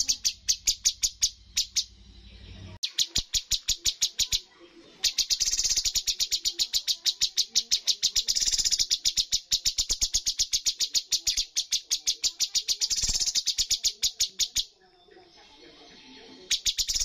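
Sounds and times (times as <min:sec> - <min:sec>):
songbird rapid singing: 0:00.0 - 0:17.0.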